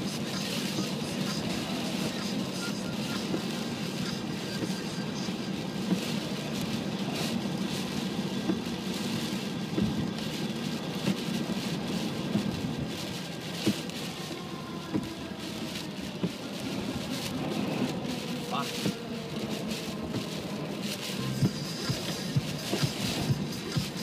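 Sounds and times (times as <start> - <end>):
heavy rain: 0.0 - 24.0
tyre spray and road noise: 0.0 - 24.0.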